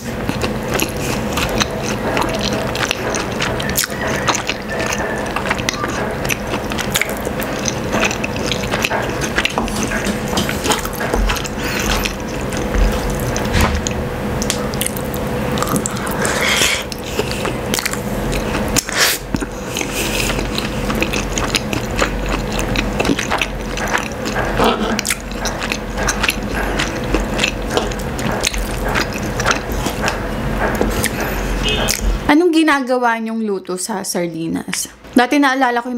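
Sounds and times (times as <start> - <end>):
wet chewing: 0.0 - 32.2.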